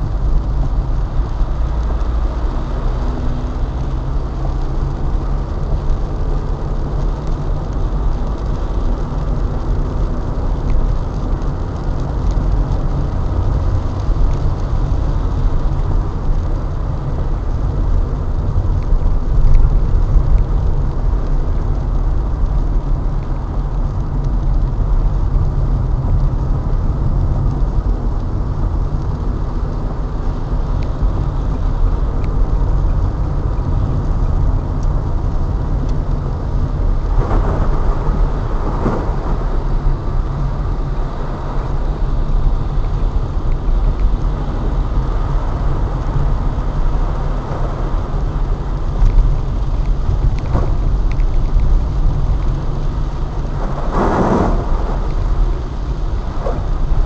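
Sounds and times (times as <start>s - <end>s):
car driving on wet road: 0.0s - 57.0s
rain: 0.0s - 57.0s.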